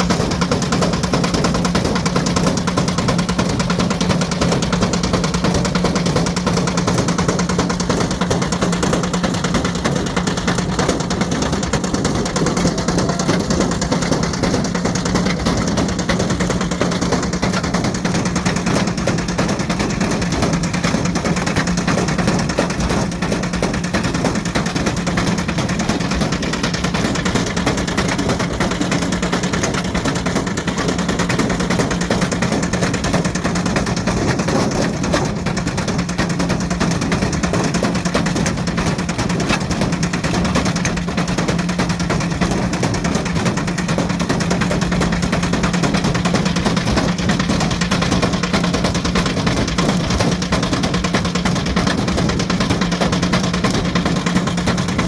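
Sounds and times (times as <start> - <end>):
brick rattling in drum: 0.0 - 55.0
washing machine motor hum: 0.0 - 55.0.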